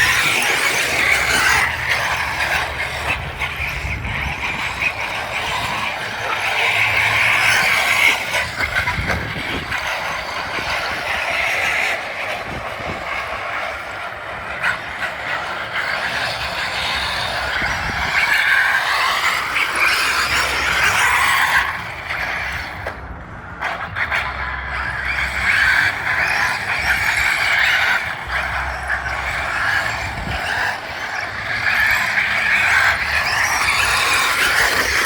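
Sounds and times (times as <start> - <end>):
electric toy car motor whining: 0.0 - 35.0.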